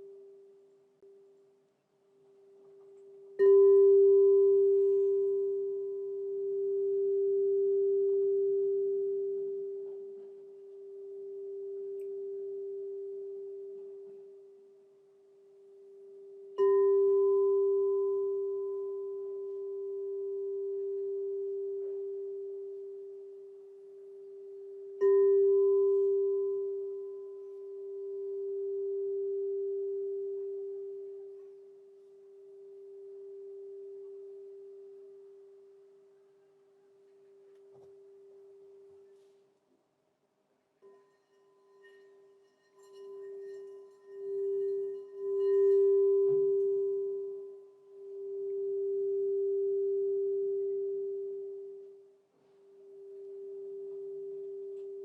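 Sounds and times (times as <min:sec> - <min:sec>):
crystal singing bowl ringing: 0:02.8 - 0:36.1, 0:40.8 - 0:55.0.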